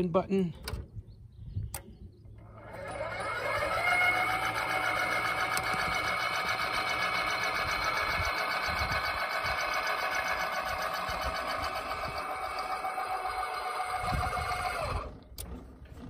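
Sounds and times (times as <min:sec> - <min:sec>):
gate motor whining: 0:02.4 - 0:15.6.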